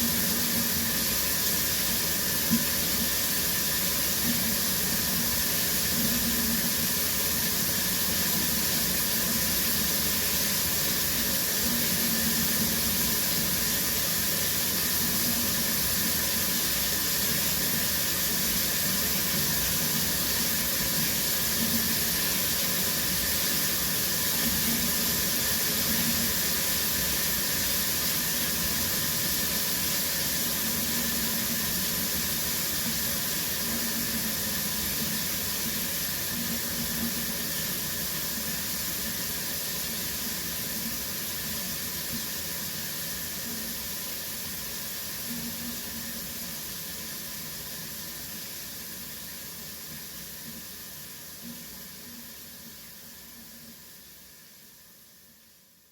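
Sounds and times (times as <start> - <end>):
shower water running: 0.0 - 54.6.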